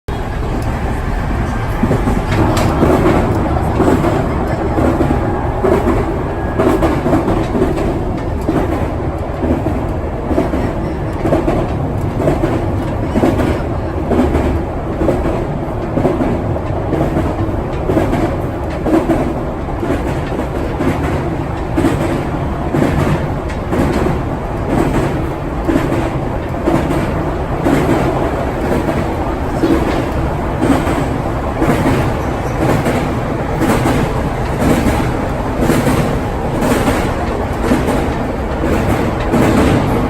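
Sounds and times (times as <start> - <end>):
electric train rumbling: 0.1 - 40.0
wheels clacking over rail joints: 0.2 - 40.0.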